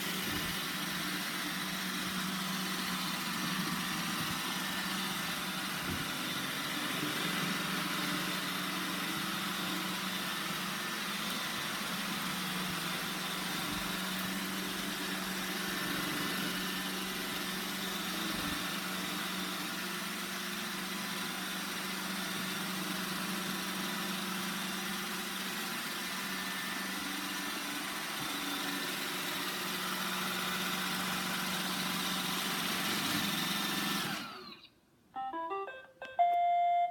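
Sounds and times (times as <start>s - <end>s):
robot vacuum running: 0.0s - 34.7s.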